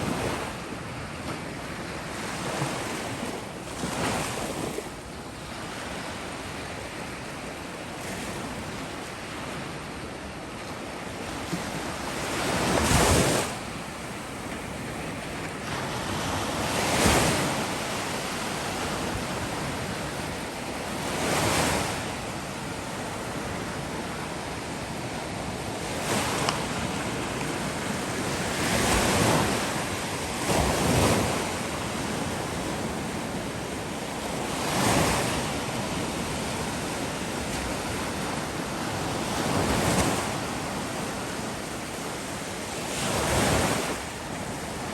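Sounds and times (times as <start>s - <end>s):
waves breaking on shore: 0.0s - 44.9s.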